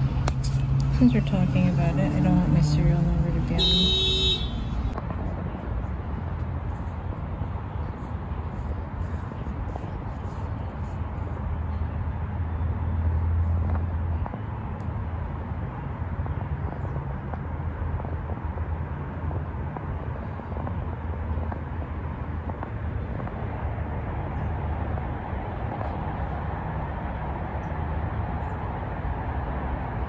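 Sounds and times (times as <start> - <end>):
low outdoor background rumble: 0.0 - 30.0.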